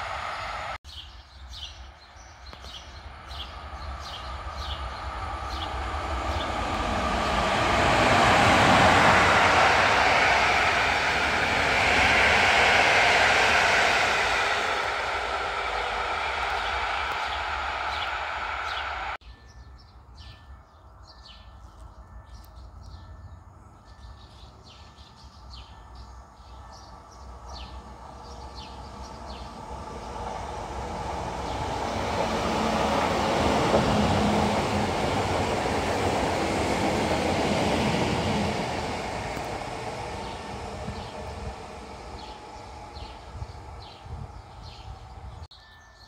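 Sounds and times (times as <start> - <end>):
passenger train wheels rumbling: 0.0 - 19.3, 23.6 - 45.5
electric train passing: 0.0 - 22.1, 22.7 - 46.0
birds chirping: 0.3 - 11.7, 14.6 - 39.3, 39.9 - 46.0.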